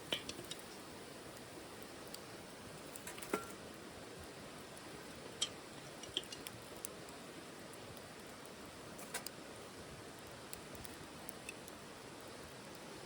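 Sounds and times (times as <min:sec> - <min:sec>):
fire crackles and pops: 0:00.0 - 0:13.0
wood stove faint hiss: 0:00.0 - 0:13.0.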